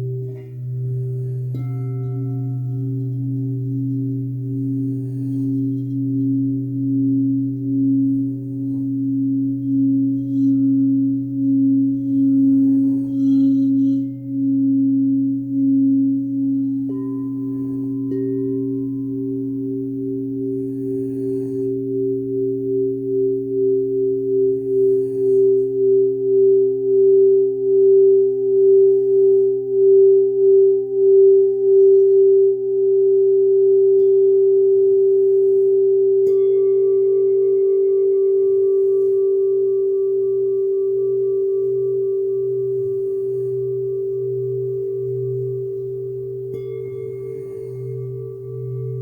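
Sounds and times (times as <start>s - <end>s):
singing bowls ringing: 0.0s - 49.0s.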